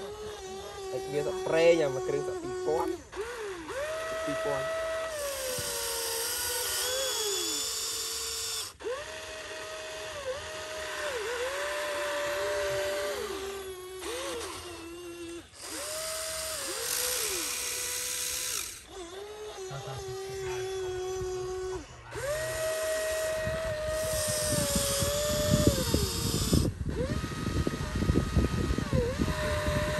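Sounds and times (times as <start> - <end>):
small electric motors whining: 0.0 - 29.9.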